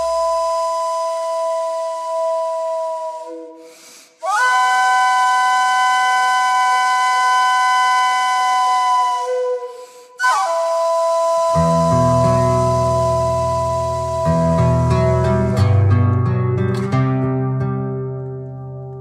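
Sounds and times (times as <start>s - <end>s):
held flute-like notes: 0.0s - 16.0s.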